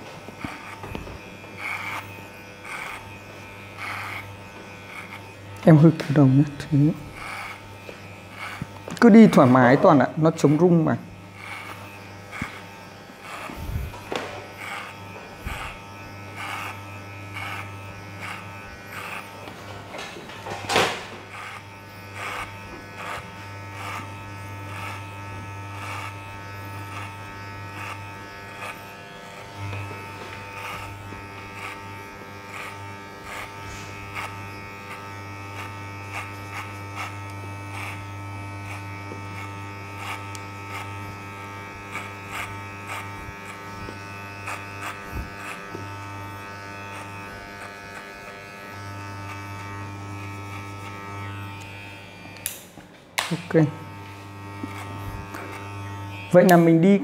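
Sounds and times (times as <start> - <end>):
scratchy strokes through hair: 0.0 - 52.4, 53.8 - 57.0
electric hair clipper buzzing: 0.0 - 57.0.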